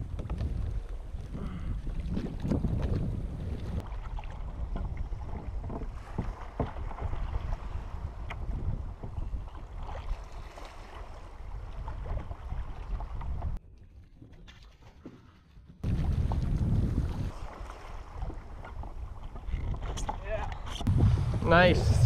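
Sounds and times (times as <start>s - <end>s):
wind buffeting microphone: 0.0s - 13.6s, 15.7s - 22.0s
water sloshing around kayak: 0.0s - 22.0s.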